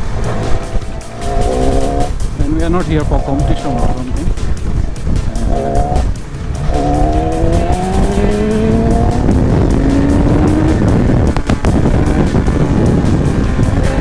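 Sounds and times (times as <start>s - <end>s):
motorcycle engine accelerating: 0.0s - 14.0s
wind and road noise: 0.0s - 14.0s.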